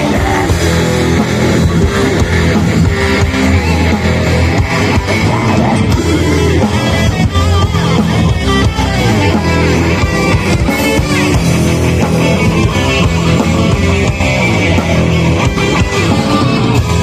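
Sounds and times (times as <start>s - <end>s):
bass: 0.0s - 17.0s
distorted electric guitars: 0.0s - 17.0s
drums: 0.0s - 17.0s.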